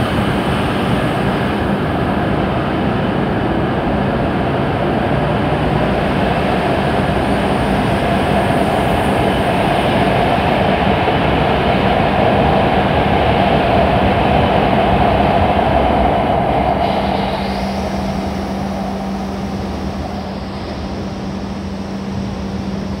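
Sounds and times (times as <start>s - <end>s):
steady low hum: 0.0s - 23.0s
train rushing past: 0.0s - 23.0s.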